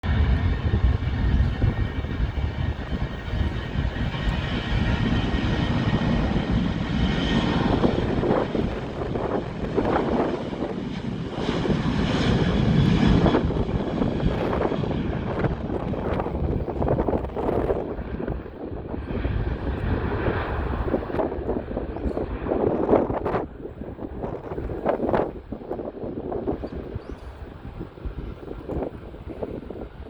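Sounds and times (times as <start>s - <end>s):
airplane engines at takeoff power: 0.0s - 30.0s.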